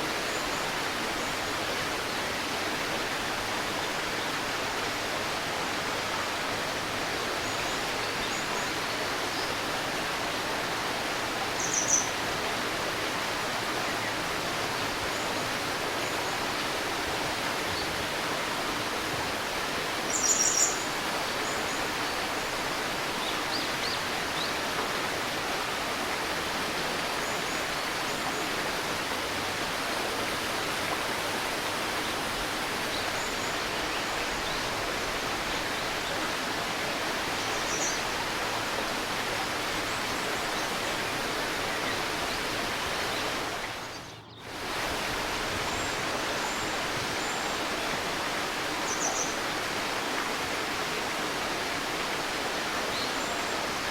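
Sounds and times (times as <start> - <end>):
babbling river: 0.0 - 53.9.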